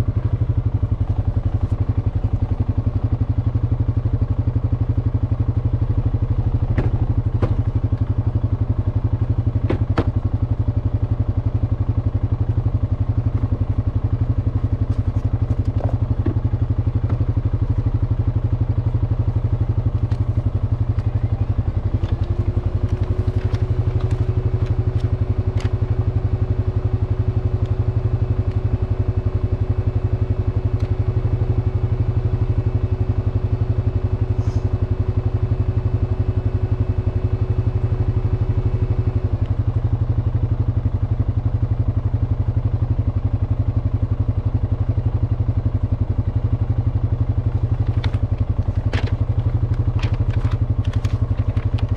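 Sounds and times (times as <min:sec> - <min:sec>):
atv engine idling: 0:00.0 - 0:51.9.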